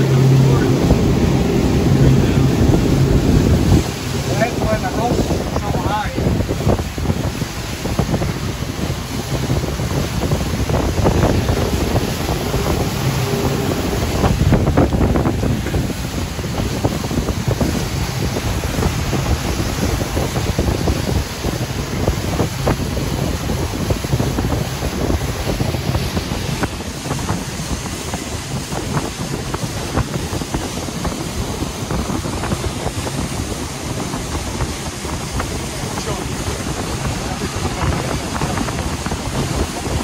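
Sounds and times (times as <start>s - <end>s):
water rushing and splashing: 0.0s - 40.0s
wind buffeting microphone: 0.0s - 40.0s.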